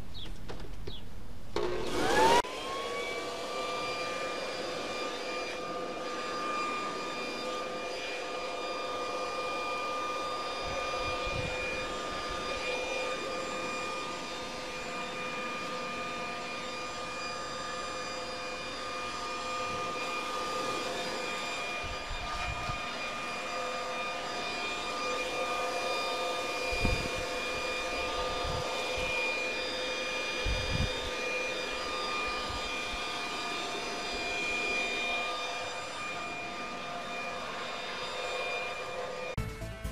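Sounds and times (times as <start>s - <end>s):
electric leaf blower whine: 0.0s - 39.9s.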